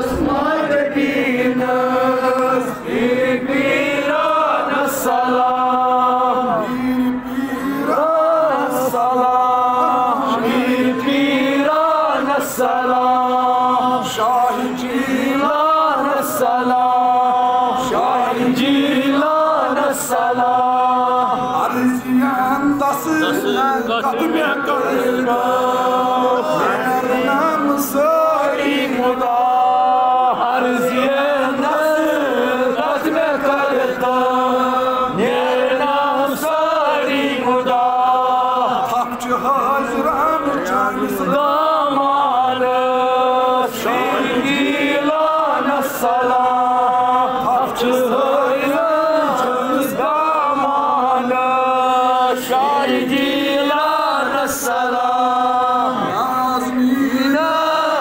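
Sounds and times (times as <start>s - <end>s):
man leading devotional chanting: 0.0s - 58.0s
men's voices chanting: 0.0s - 58.0s.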